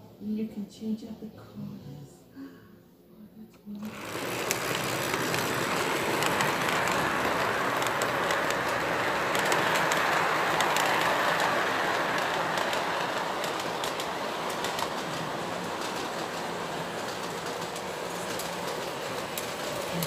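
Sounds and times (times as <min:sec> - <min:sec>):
model train wheels rumbling: 0:03.8 - 0:20.0
wheels clicking over rail joints: 0:03.8 - 0:20.0.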